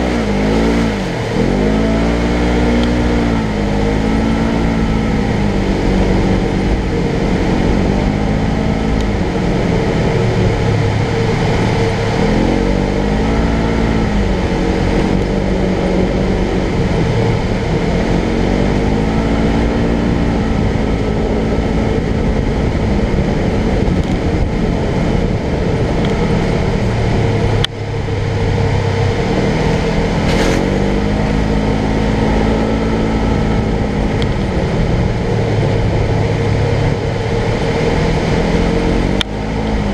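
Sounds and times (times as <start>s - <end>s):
steady rush of noise: 0.0s - 39.9s
utility vehicle engine revving: 0.0s - 39.9s.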